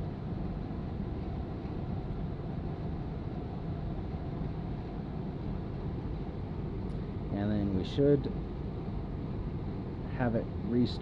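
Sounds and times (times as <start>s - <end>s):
furnace blower fan humming: 0.0s - 11.0s.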